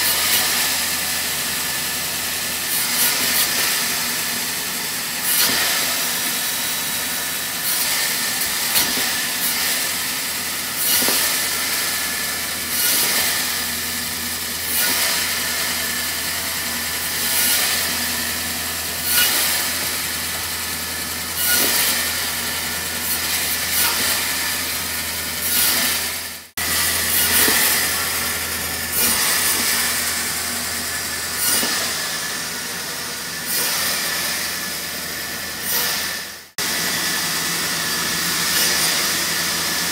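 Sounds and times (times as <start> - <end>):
band saw running: 0.0 - 39.9
saw blade rasping through wood: 0.0 - 39.9.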